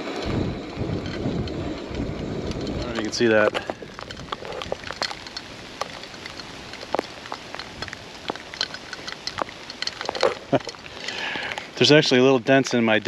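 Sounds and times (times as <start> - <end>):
drops and hail ticking: 0.0 - 13.0
rain hissing: 0.0 - 13.0.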